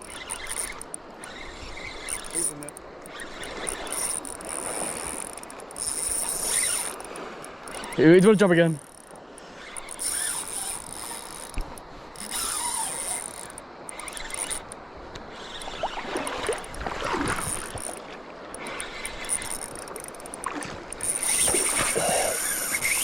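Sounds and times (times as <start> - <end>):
fishing reel clicking and whirring: 0.0 - 23.0.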